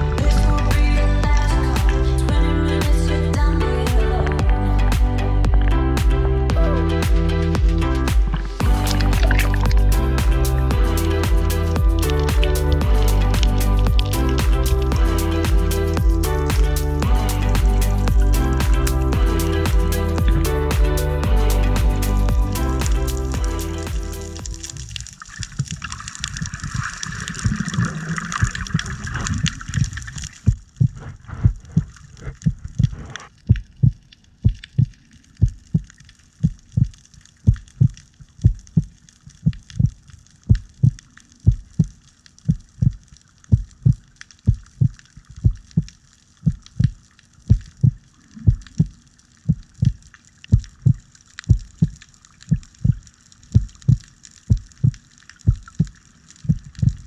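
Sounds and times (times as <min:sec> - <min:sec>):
water splashing and bubbling: 0:00.0 - 0:03.0, 0:03.9 - 0:57.0
heartbeat thumps: 0:00.1 - 0:24.6, 0:30.5 - 0:57.0.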